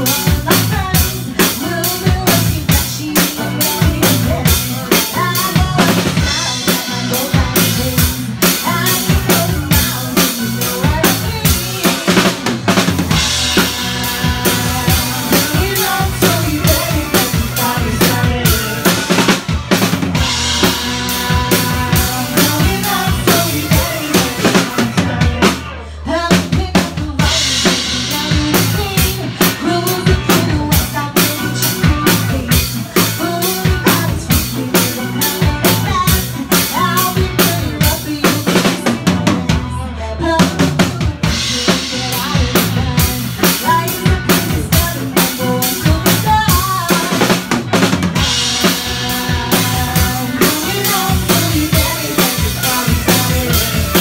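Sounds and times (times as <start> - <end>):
live band playing pop-dance song: 0.0 - 54.0.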